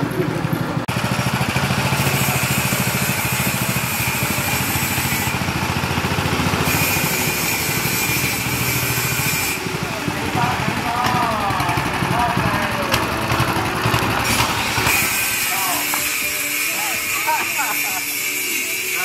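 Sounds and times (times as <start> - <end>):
small petrol engine running: 0.0 - 19.0.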